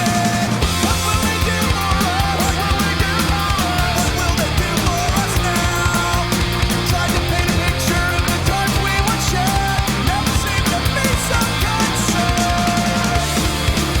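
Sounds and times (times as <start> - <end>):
driving drum beat: 0.0 - 14.0
instrumental rock music: 0.0 - 14.0.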